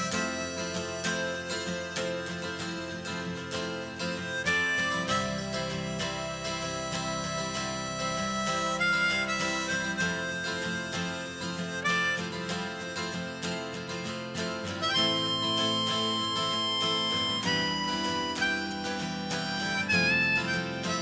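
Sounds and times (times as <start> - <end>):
harmonica melody: 0.0 - 21.0
strummed acoustic guitar: 0.0 - 21.0.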